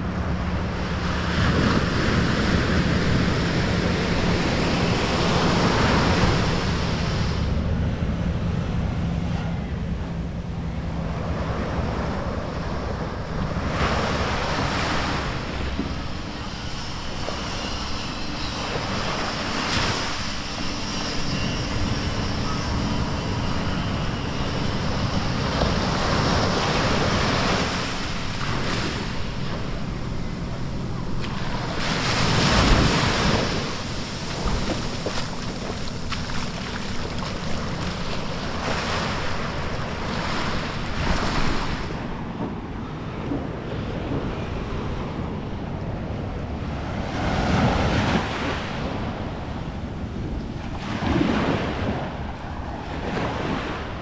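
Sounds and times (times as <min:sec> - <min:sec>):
surf washing on sandy shore: 0:00.0 - 0:54.0
wind rumble on microphone: 0:00.0 - 0:54.0.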